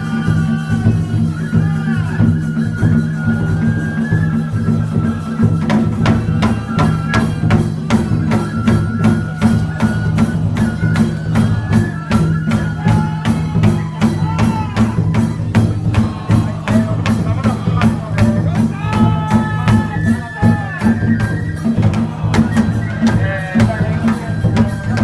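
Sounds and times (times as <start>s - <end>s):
steady percussion beat: 0.0s - 25.0s
wavering melody: 2.2s - 25.0s.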